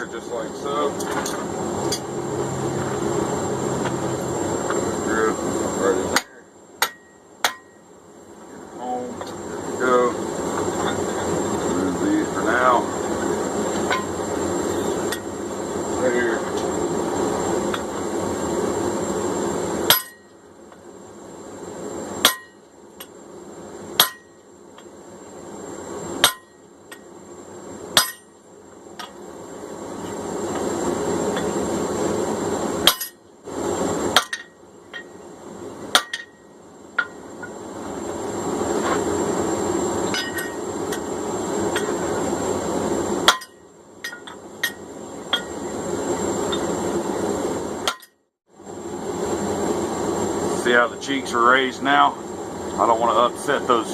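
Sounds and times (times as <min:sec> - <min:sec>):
steady rushing noise: 0:00.0 - 0:24.4, 0:28.9 - 0:53.9.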